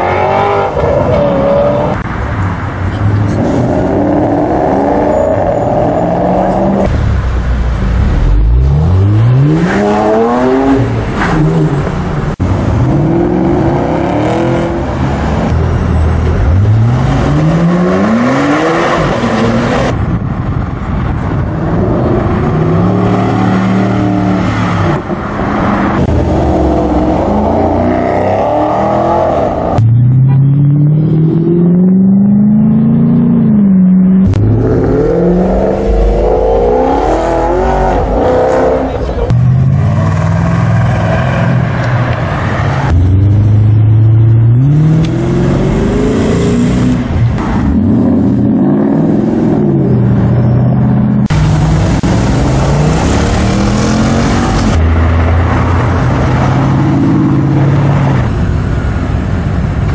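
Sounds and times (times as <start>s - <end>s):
car engines revving and accelerating: 0.0s - 59.9s.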